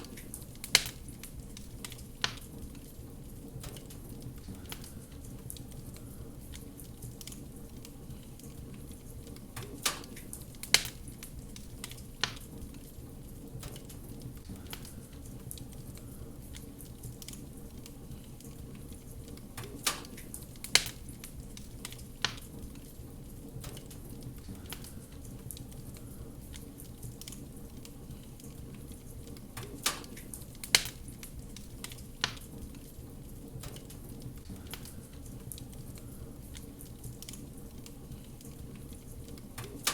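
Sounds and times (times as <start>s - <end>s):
fire crackling pops: 0.0s - 39.9s
wood fire rumbling: 0.0s - 39.9s.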